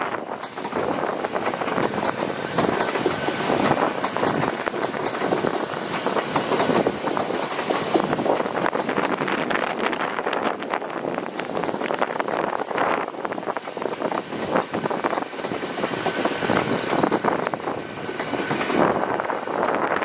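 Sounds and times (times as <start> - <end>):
train rumble: 0.0 - 20.0
train wheels clattering: 0.3 - 10.4, 11.0 - 12.8, 13.4 - 19.8.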